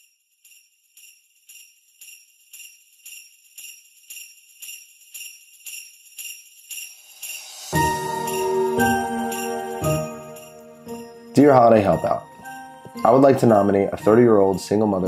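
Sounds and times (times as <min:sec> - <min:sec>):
sleigh bells shaken rhythmically: 0:00.0 - 0:15.0.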